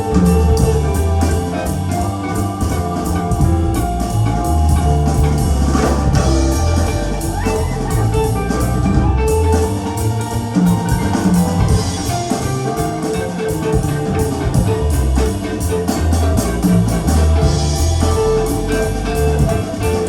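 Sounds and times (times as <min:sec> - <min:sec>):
music with deep bass: 0:00.0 - 0:20.0.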